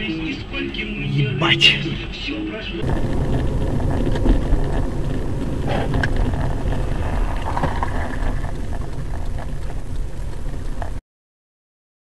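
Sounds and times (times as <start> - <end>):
vehicle rumbling in motion: 0.0 - 11.0.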